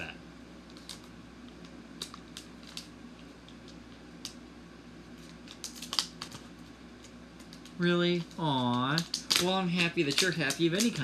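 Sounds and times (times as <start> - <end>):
faint steady hum: 0.0 - 11.0
plastic packet crinkling: 0.7 - 4.4, 5.2 - 11.0.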